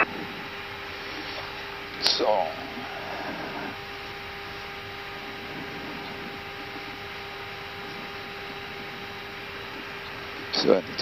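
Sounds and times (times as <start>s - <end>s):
cockpit hiss and hum: 0.0s - 11.0s.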